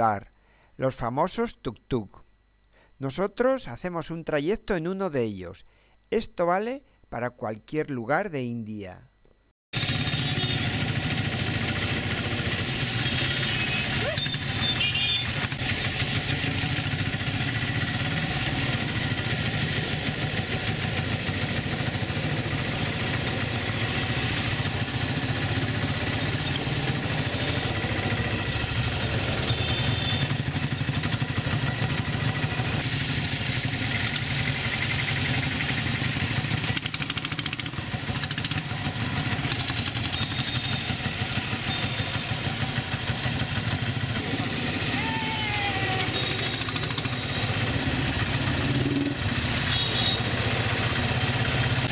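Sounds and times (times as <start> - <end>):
auto-rickshaw engine running: 9.8 - 51.9.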